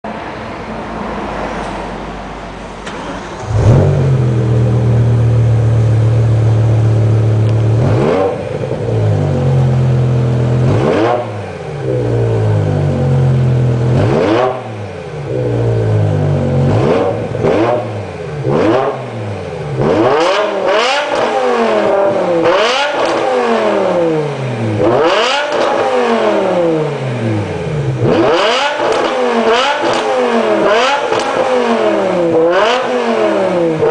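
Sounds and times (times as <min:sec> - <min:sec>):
car engine starting and revving: 0:02.4 - 0:33.9.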